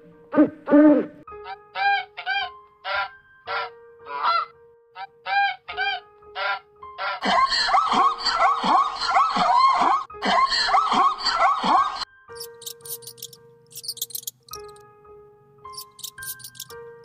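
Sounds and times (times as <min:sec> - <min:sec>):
background music steady note: 0:00.0 - 0:17.0.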